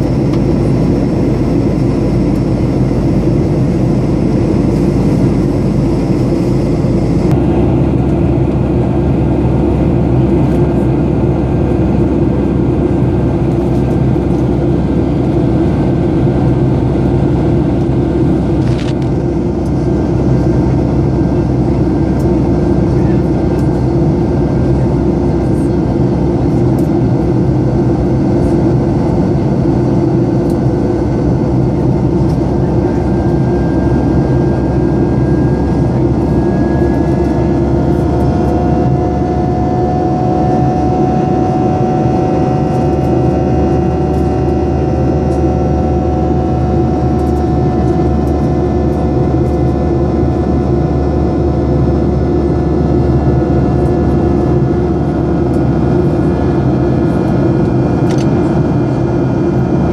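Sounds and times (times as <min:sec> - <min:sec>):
jet engine cabin rumble: 0:00.0 - 0:59.9
rising whine: 0:00.0 - 0:59.9.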